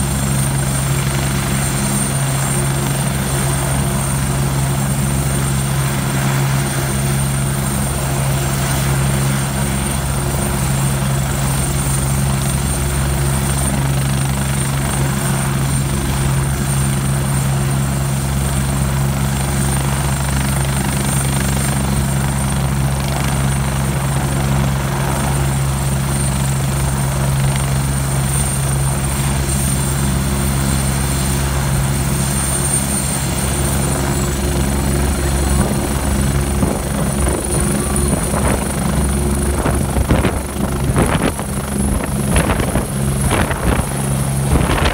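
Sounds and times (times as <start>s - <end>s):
helicopter rotor drone: 0.0s - 44.9s
high turbine whine: 0.0s - 44.9s.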